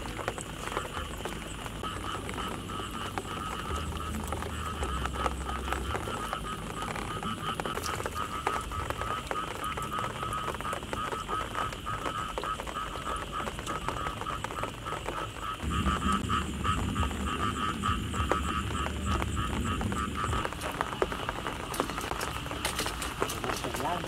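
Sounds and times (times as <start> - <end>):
frogs trilling chorus: 0.0 - 24.0
small ticks and splashes: 0.0 - 24.0.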